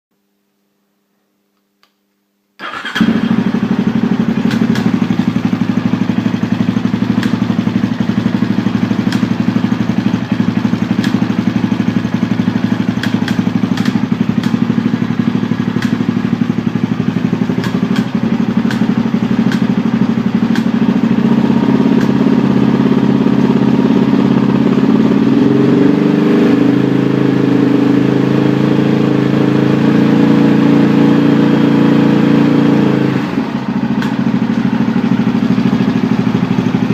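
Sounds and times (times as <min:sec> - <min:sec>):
motorcycle engine idling: 0:02.6 - 0:29.9, 0:32.9 - 0:36.9.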